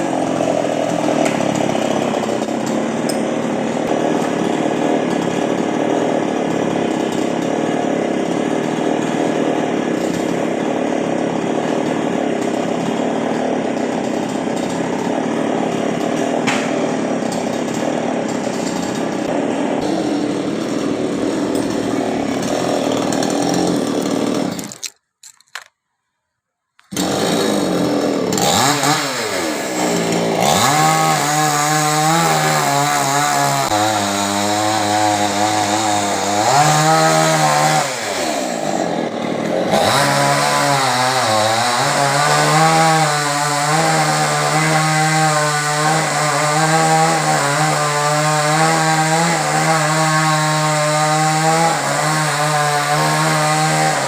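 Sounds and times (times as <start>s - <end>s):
chainsaw cutting: 0.0s - 25.8s, 26.8s - 54.0s.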